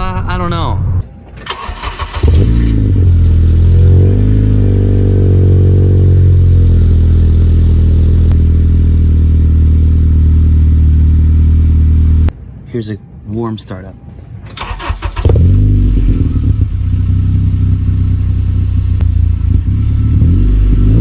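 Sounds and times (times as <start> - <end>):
car engine starting and idling: 1.0 - 12.6, 13.9 - 21.0.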